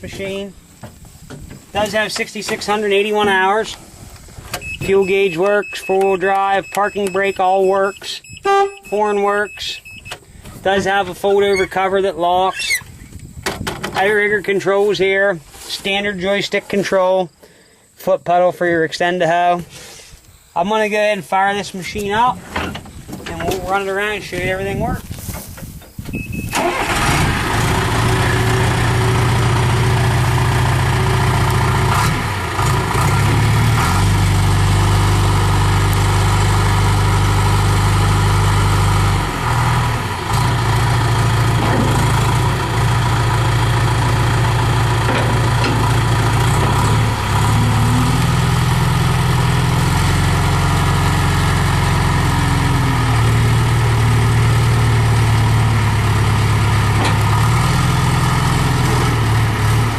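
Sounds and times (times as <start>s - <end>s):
diesel engine starting and running: 0.0s - 17.1s, 21.3s - 59.9s.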